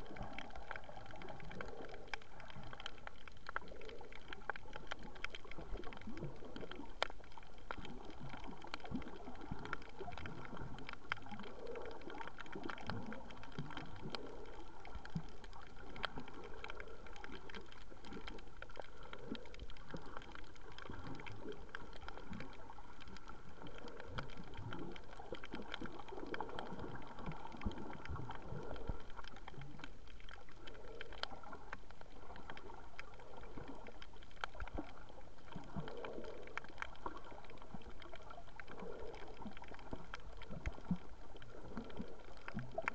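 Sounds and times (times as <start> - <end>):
muffled underwater gurgling: 0.0 - 42.9
small underwater clicks: 0.0 - 42.9.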